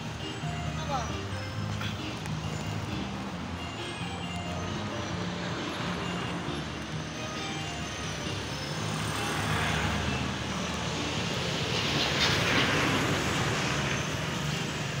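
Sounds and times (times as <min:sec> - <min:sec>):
vehicle passing: 0:00.6 - 0:15.0.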